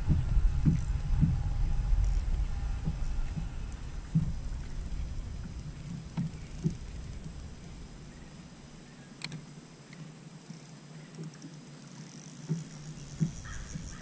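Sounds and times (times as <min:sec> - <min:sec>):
trolling motor humming: 0:00.0 - 0:14.0.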